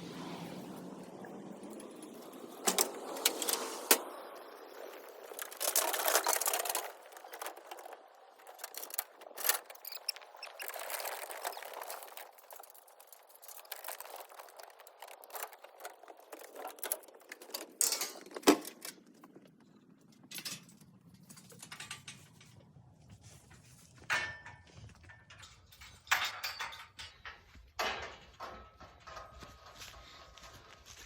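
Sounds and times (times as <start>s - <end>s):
hooves clattering on trailer floor: 5.2s - 31.0s.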